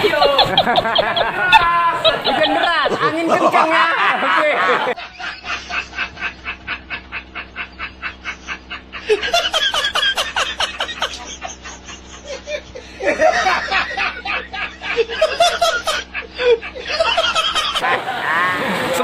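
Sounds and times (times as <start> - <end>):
rapid snickering laughter: 0.0 - 19.0
steady low hum: 0.0 - 19.0.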